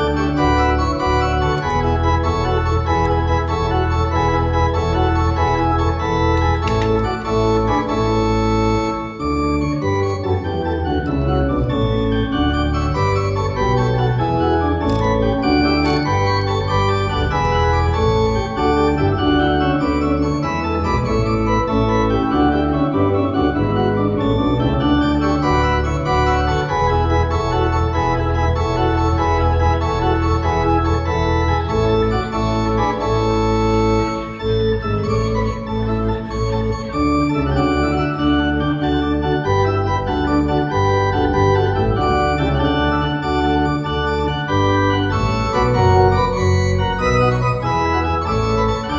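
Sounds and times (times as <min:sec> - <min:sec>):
classical organ music: 0:00.0 - 0:48.9.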